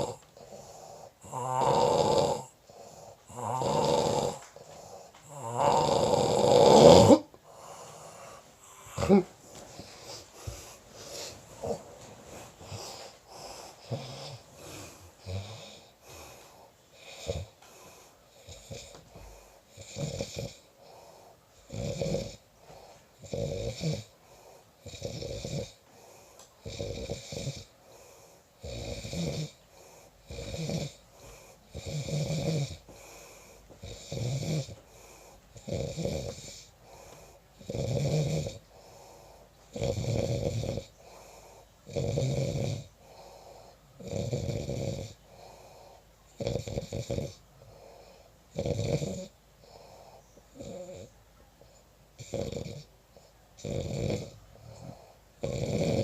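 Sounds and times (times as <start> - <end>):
snoring: 0.0 - 51.1, 52.2 - 56.0.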